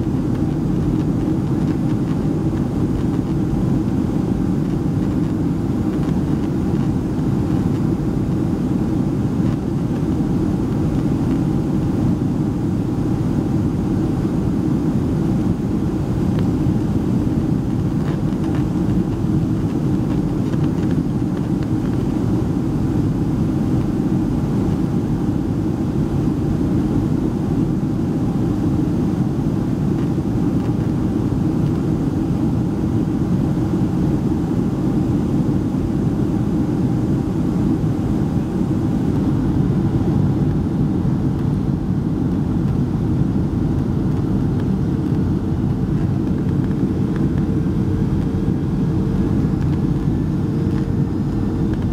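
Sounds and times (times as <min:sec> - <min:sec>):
airplane cabin rumble: 0:00.0 - 0:51.9
faint steady hum: 0:00.0 - 0:51.9.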